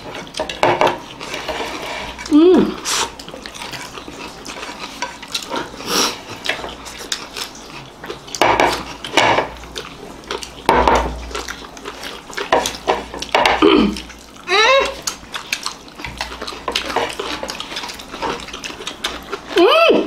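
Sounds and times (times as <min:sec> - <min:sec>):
chewing and lip-smacking: 0:00.0 - 0:20.0.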